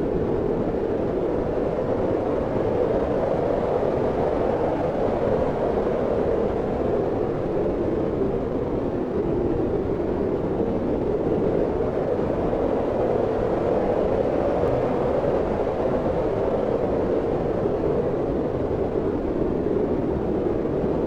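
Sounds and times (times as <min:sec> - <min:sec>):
wind blowing steadily: 0:00.0 - 0:21.0.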